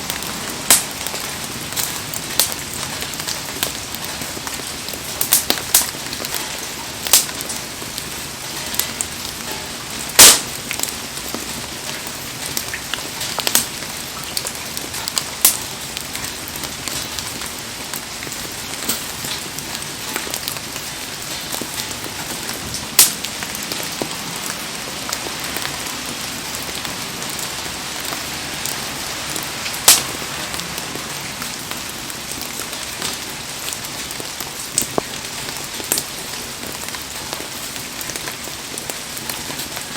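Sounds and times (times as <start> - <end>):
heavy rain hissing: 0.0 - 39.9
burning wood popping: 0.1 - 17.5, 18.2 - 24.1, 28.0 - 30.6, 31.7 - 39.9.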